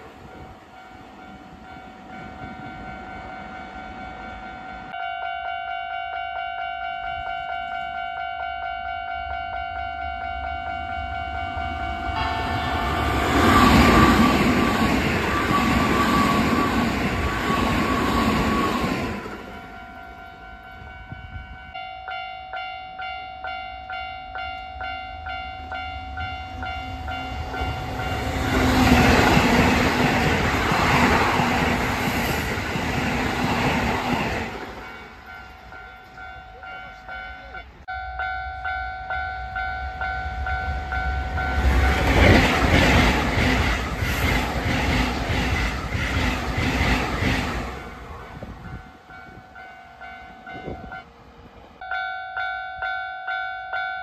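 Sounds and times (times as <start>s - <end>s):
trains rushing past: 0.0s - 5.0s, 8.8s - 21.8s, 23.9s - 52.9s.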